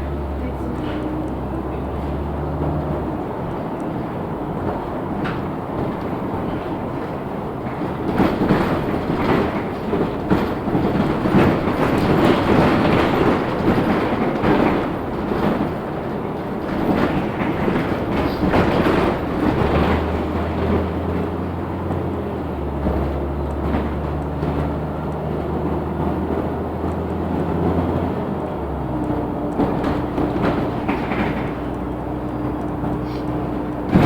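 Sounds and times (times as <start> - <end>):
bus road noise rumbling: 0.0 - 34.0
low engine hum: 0.0 - 34.0
clattering rattling knocks: 4.8 - 34.0.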